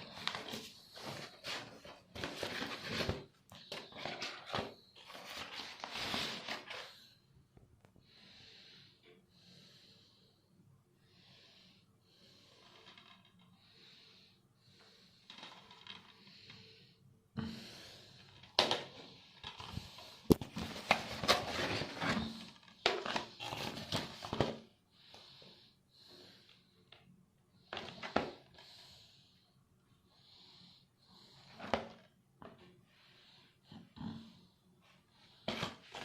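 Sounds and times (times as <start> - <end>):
soft breathing: 0.0 - 36.0.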